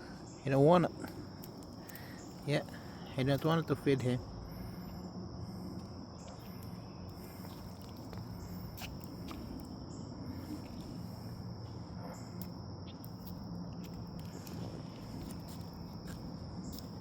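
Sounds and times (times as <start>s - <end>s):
high-pitched insect drone: 0.0s - 17.0s
low background rumble: 0.0s - 17.0s.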